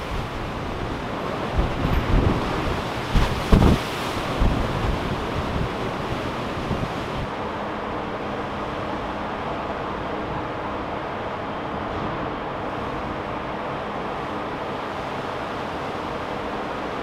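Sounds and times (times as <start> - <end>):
gusty wind buffeting microphone: 0.0 - 17.0
ship rumble: 0.0 - 17.0
wave slamming ship side: 0.0 - 17.0.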